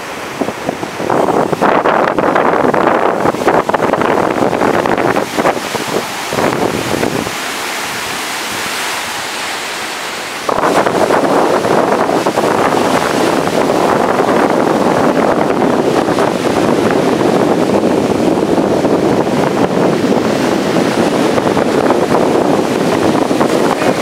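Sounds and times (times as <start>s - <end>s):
surf breaking: 0.0s - 24.0s
wind buffeting microphone: 0.0s - 24.0s.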